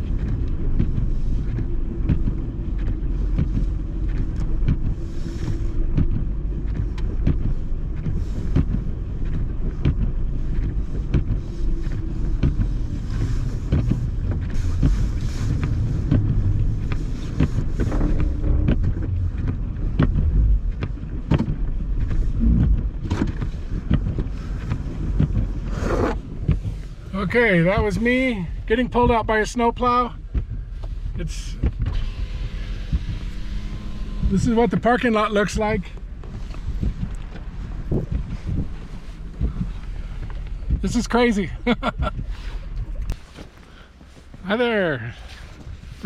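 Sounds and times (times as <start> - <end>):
clunks and knocks: 0.0 - 29.3, 30.1 - 44.4
wind buffeting microphone: 0.0 - 29.4, 30.2 - 44.4
engines rumbling: 0.0 - 46.0.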